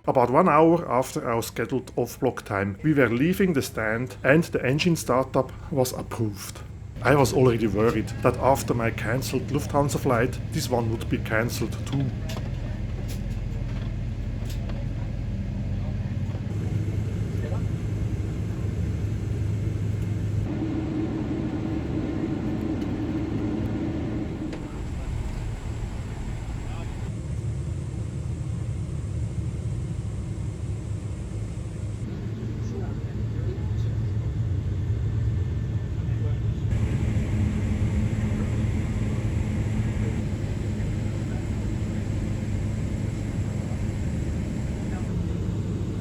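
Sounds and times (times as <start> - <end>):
aircraft cabin engine hum: 0.0 - 35.9, 36.6 - 46.0.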